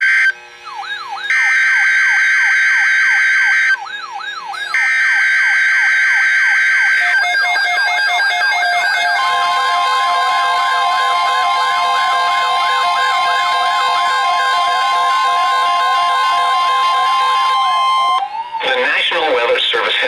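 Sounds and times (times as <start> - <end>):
steady single-pitch warning tone: 0.0 - 18.4
wailing siren sweep: 0.0 - 20.0.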